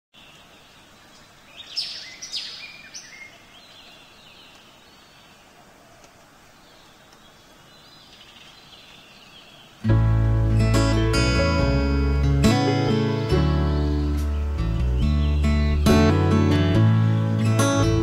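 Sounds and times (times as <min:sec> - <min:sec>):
birds chirping: 0:00.1 - 0:18.0
faint outdoor hiss: 0:00.2 - 0:18.0.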